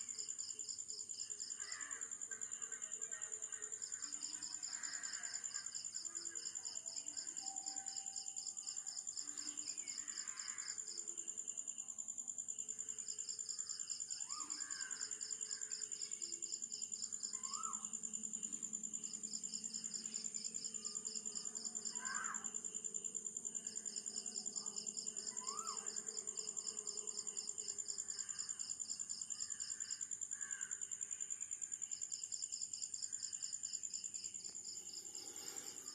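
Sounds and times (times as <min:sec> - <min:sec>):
insects trilling high-pitched: 0:00.0 - 0:35.9
lower pulsing insect trill: 0:00.0 - 0:35.9.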